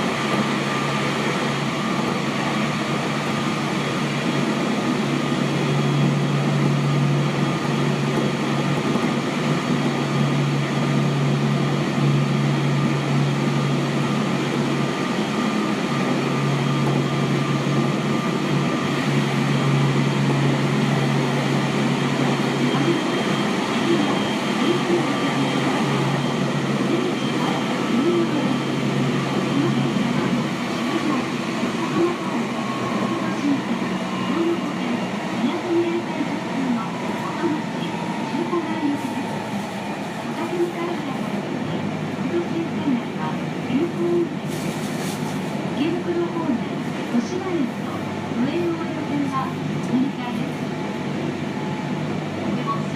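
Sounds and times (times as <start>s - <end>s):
train hum and rolling noise: 0.0s - 52.9s.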